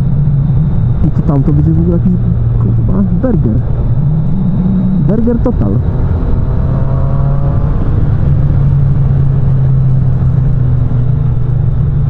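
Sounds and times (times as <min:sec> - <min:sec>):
motorcycle engine cruising: 0:00.0 - 0:12.0
wind noise: 0:00.0 - 0:12.0.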